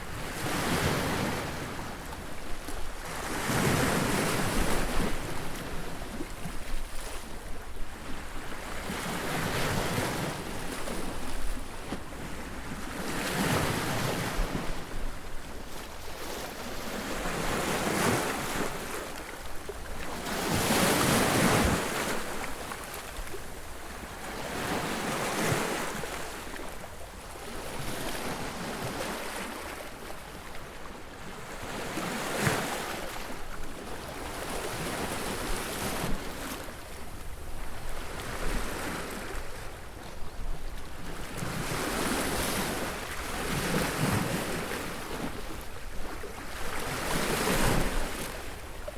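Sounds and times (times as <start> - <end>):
waves breaking on beach: 0.0 - 48.9.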